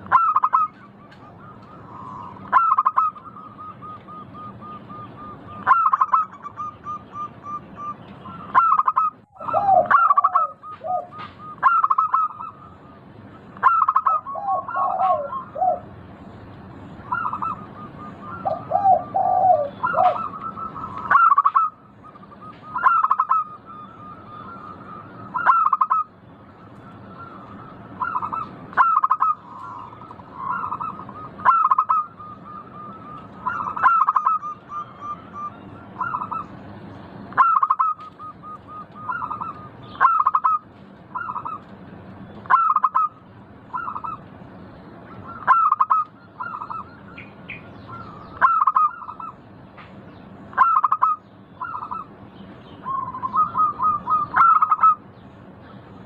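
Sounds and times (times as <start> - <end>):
dove cooing: 0.0 - 13.0, 13.6 - 16.0, 17.0 - 26.1, 26.7 - 36.6, 37.3 - 41.7, 42.4 - 44.2, 45.2 - 49.4, 50.6 - 52.1, 52.8 - 55.0
low steady background hum: 0.0 - 56.0.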